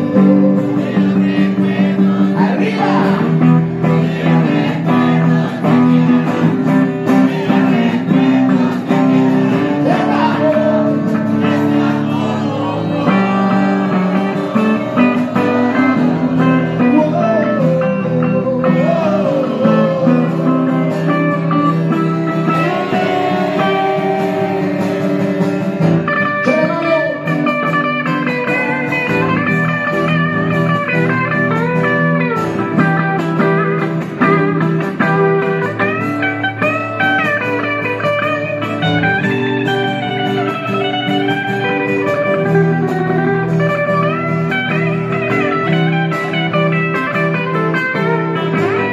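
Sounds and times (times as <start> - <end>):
lead guitar with bending notes: 0.0 - 48.9
rock band playing: 0.0 - 48.9.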